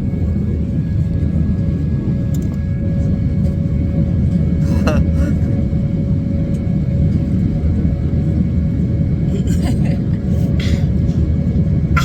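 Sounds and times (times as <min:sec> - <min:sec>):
airliner cabin engine rumble: 0:00.0 - 0:12.0
constant hum: 0:00.0 - 0:12.0.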